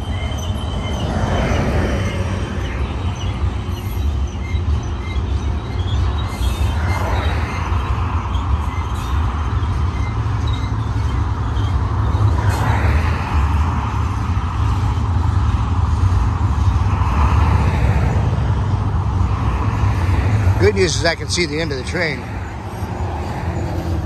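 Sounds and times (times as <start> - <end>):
freight cars rolling noise: 0.0 - 24.0
train wheels rumbling on rail: 0.0 - 24.0.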